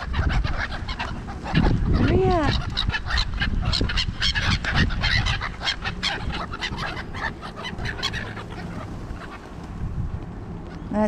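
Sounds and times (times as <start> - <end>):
flock of birds calling harshly: 0.0 - 9.6
wind rumble on microphone: 0.0 - 11.0.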